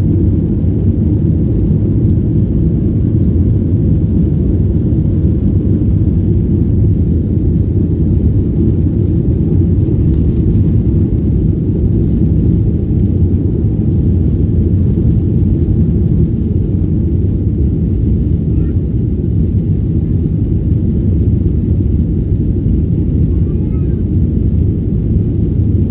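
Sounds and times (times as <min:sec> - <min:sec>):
jet engines rumbling during takeoff: 0:00.0 - 0:25.9.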